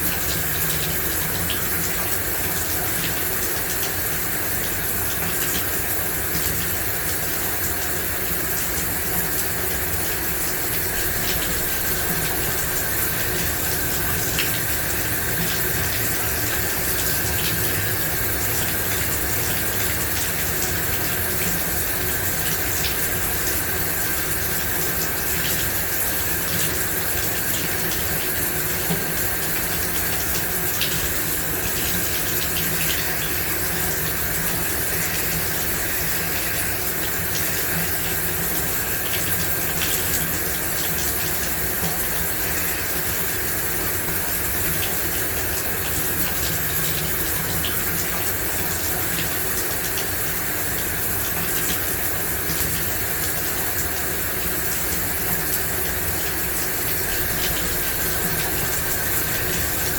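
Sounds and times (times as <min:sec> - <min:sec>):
shower water spraying: 0:00.0 - 0:59.9.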